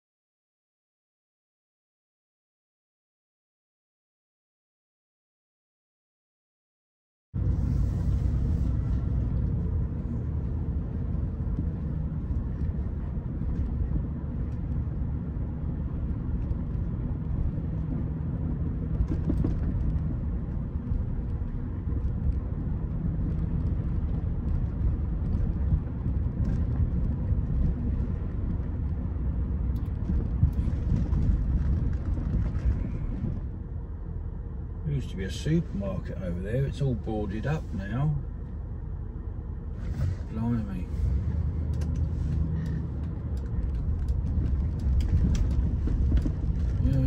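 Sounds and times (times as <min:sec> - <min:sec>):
car engine and road rumble: 0:07.4 - 0:47.0.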